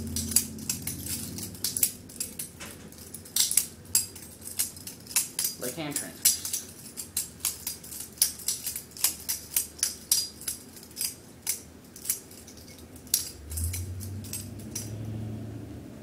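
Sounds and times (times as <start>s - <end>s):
butterfly knife handles clicking: 0.0s - 15.0s
low steady hum: 0.0s - 16.0s.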